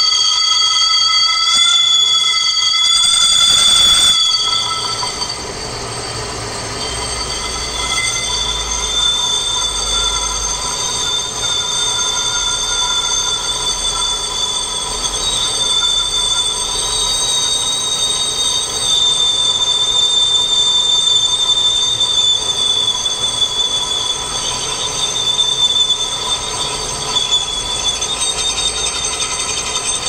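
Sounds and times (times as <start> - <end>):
lathe cutting tool ringing: 0.0 - 30.0
lathe machine rumble: 1.7 - 30.0.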